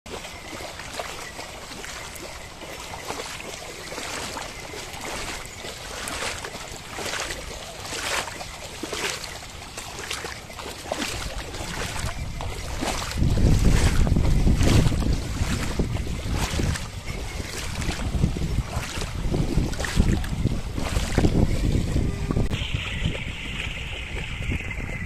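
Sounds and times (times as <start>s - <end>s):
hooves splashing in water: 0.1s - 25.0s
muddy water sloshing: 0.1s - 25.0s.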